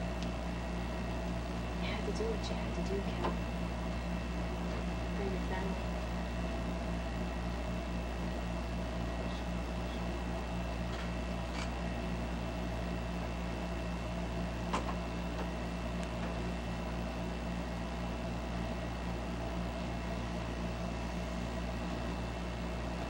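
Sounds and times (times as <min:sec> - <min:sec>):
camcorder hum and hiss: 0:00.0 - 0:23.0.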